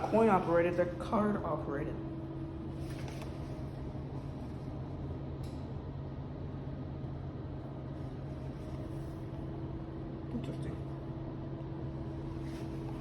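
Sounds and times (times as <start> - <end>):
low mechanical appliance hum: 0.0 - 13.0.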